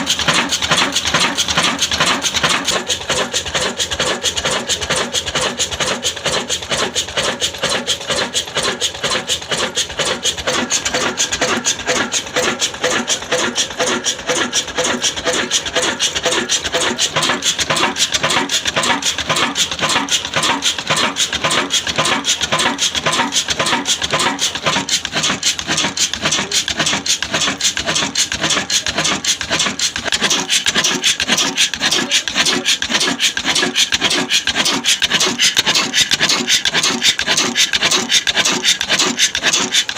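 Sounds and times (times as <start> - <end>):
diesel engine running: 0.0 - 39.9
saw rasping through wood: 0.0 - 39.9.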